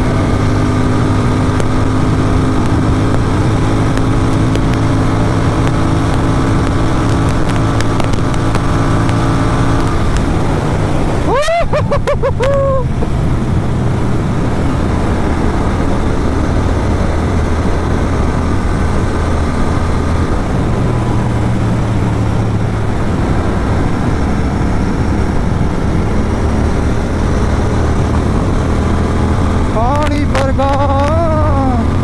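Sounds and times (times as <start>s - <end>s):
heavy wind rush: 0.0s - 32.0s
motorcycle exhaust drone: 0.0s - 32.0s.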